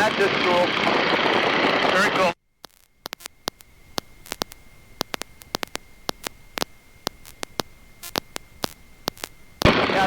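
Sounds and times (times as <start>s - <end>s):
electrical clicks and crackles: 0.0s - 10.0s
faint high whine and hiss: 1.8s - 10.0s.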